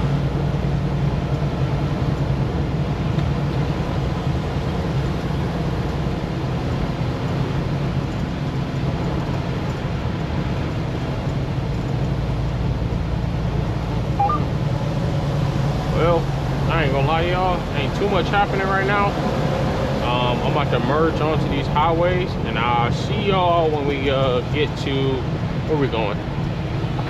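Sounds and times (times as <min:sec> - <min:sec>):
truck engine and road hum: 0:00.0 - 0:27.0.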